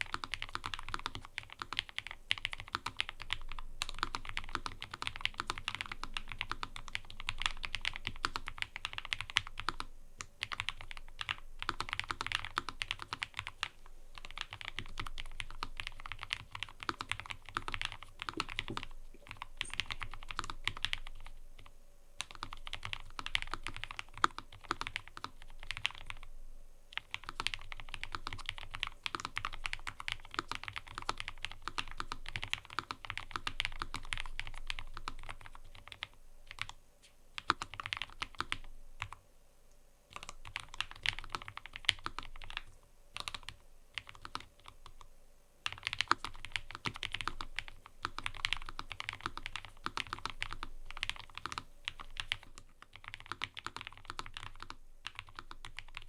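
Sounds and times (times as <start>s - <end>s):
typing on mechanical keyboard: 0.0s - 26.3s, 26.9s - 36.8s, 37.4s - 39.2s, 40.1s - 56.0s.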